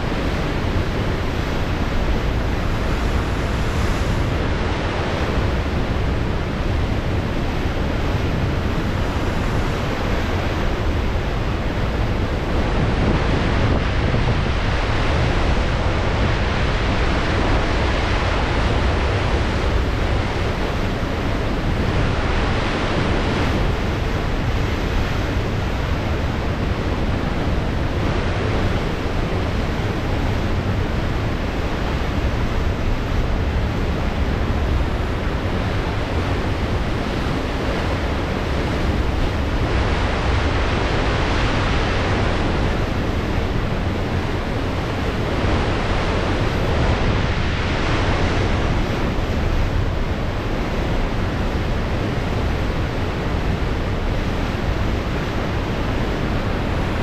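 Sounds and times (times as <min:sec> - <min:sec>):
ocean surf washing: 0:00.0 - 0:57.0
wind buffeting microphone: 0:00.0 - 0:57.0.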